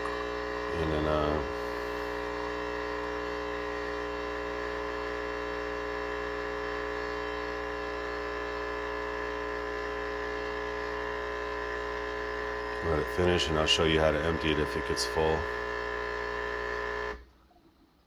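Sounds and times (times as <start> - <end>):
coffee machine pump humming: 0.0 - 17.4.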